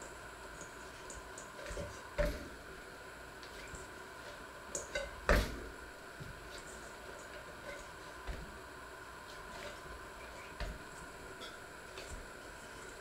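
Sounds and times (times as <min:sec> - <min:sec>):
dough kneading by hand: 0:00.0 - 0:13.0
faint steady hum: 0:00.0 - 0:13.0.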